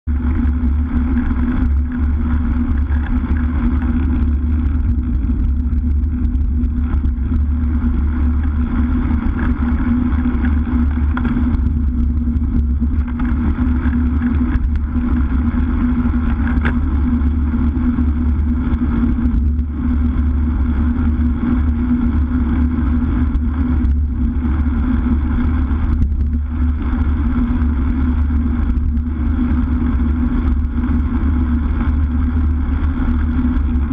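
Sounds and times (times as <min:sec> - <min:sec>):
tyres rumbling on asphalt: 0:00.0 - 0:33.9
wind rushing over microphone: 0:00.0 - 0:33.9.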